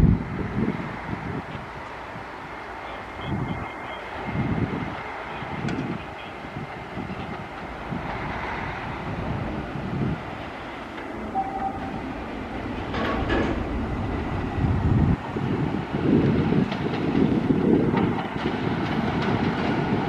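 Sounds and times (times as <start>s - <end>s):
diesel locomotive engine rumble: 0.0s - 20.0s.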